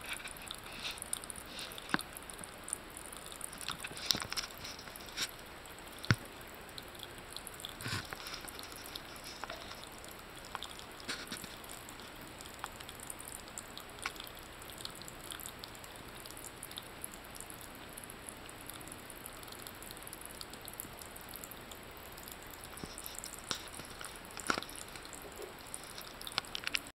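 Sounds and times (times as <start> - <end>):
water trickling into basin: 0.0 - 26.9
cat lapping water: 0.2 - 26.9.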